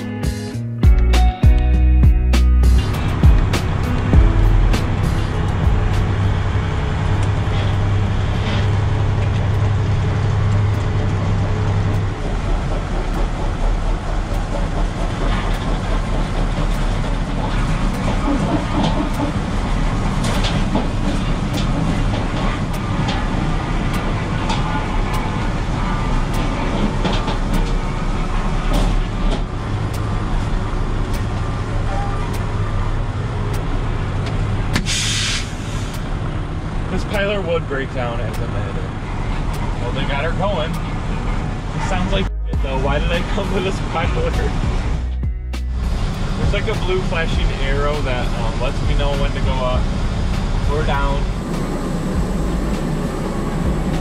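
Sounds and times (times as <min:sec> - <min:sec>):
truck diesel engine running: 0:00.8 - 0:54.0.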